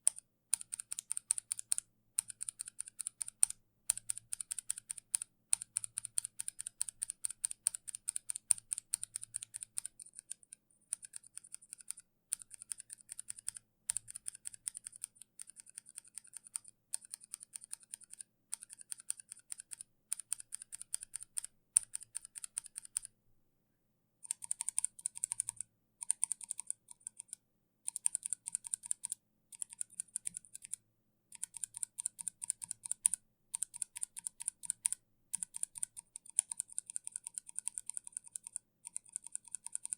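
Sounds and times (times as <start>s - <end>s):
mechanical keyboard typing: 0.0s - 23.1s, 24.2s - 39.9s.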